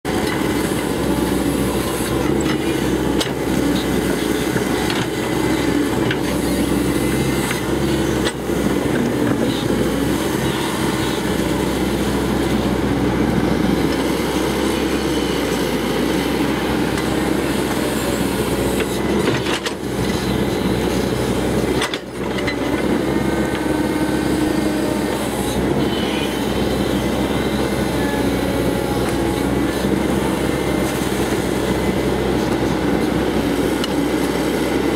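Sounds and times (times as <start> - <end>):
excavator diesel engine: 0.0 - 34.9.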